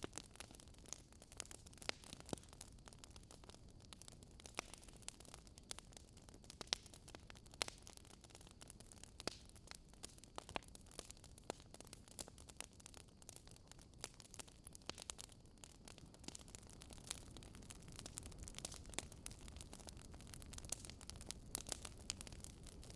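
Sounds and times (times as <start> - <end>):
faint fire hiss: 0.0 - 22.9
wood fire crackling: 0.0 - 22.9.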